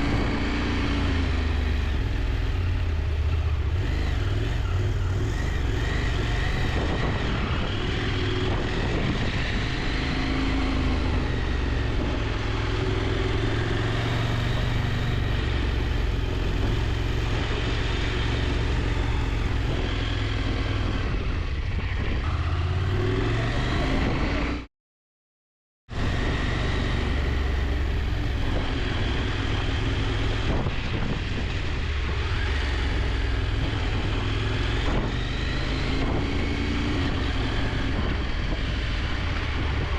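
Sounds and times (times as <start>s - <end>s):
motorcycle engine running: 0.0s - 24.6s, 25.9s - 39.9s.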